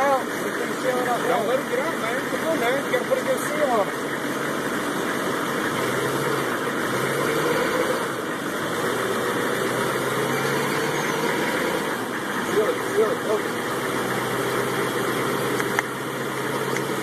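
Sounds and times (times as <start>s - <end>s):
vehicle engine running at exhaust: 0.0s - 17.0s.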